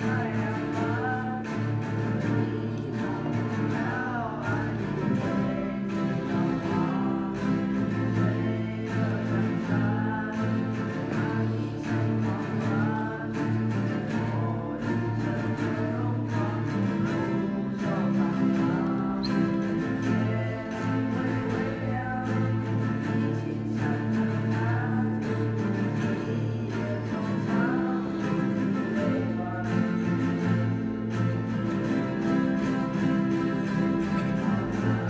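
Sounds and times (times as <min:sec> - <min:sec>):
acoustic guitars playing: 0:00.0 - 0:35.0.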